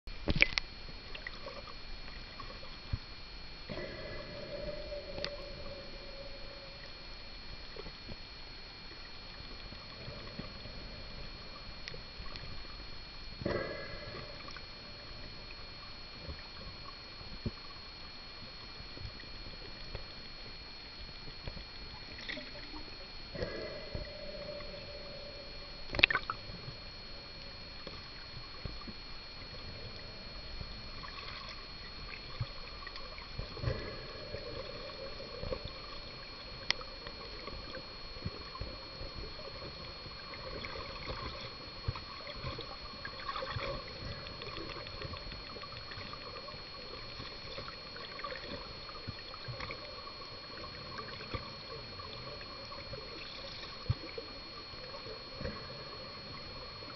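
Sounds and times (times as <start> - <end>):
faint steady high tones: 0.1 - 56.9
water gurgling underwater: 0.1 - 56.9.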